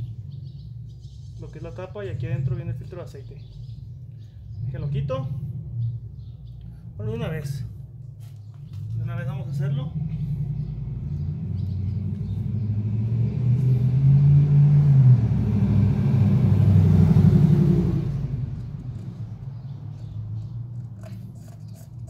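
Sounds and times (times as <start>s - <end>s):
passing vehicle engine rumble: 0.0s - 22.0s.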